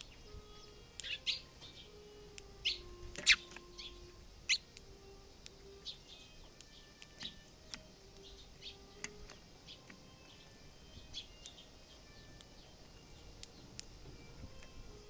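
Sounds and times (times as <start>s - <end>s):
sparrows chirping: 0.0s - 15.0s
sharp clicks: 0.9s - 14.8s.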